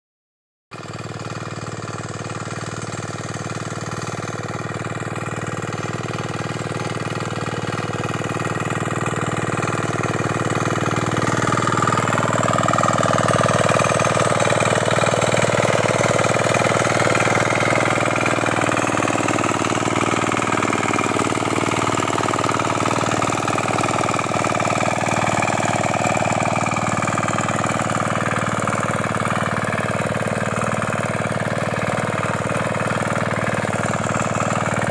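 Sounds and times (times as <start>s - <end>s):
diesel weeder engine running: 0.8s - 34.9s.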